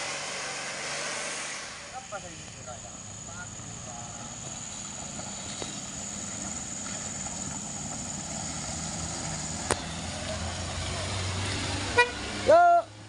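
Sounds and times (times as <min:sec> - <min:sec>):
suv engine running at low speed: 0:00.0 - 0:13.0.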